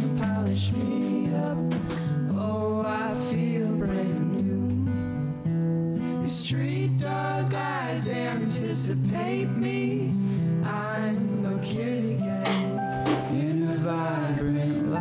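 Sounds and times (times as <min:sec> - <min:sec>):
person singing: 0:00.0 - 0:05.2, 0:06.2 - 0:15.0
acoustic guitar: 0:00.0 - 0:15.0.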